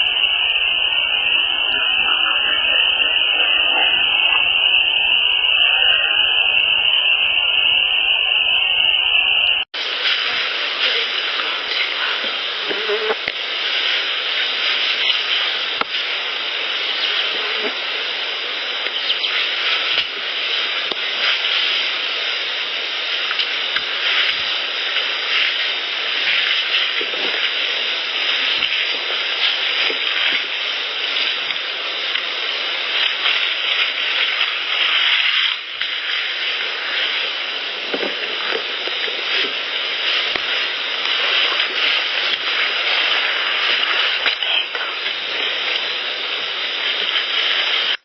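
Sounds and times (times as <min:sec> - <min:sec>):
loud steady hiss: 0:00.0 - 0:48.0.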